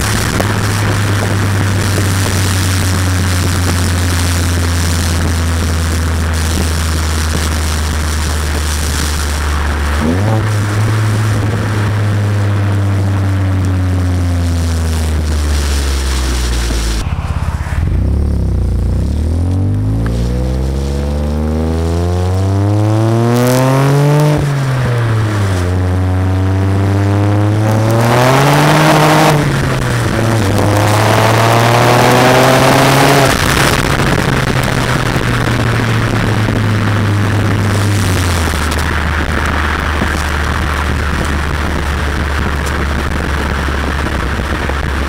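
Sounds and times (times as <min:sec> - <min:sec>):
car engine accelerating: 0:00.0 - 0:45.0
wind noise on microphone: 0:00.0 - 0:45.0.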